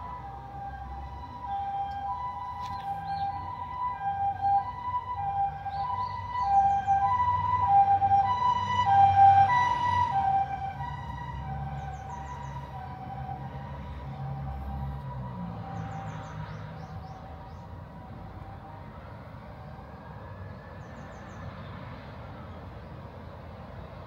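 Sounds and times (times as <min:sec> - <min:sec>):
ambulance two-tone siren: 0:00.0 - 0:22.5.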